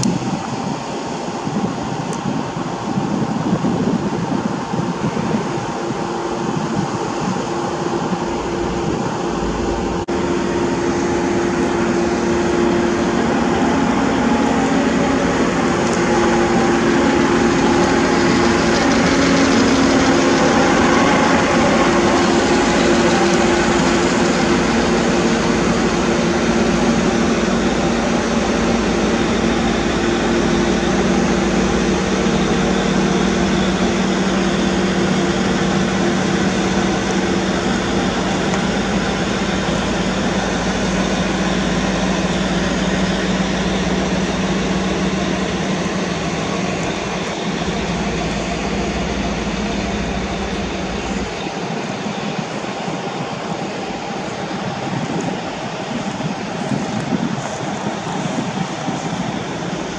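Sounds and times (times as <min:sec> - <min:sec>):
diesel engine humming: 0:00.0 - 0:59.9.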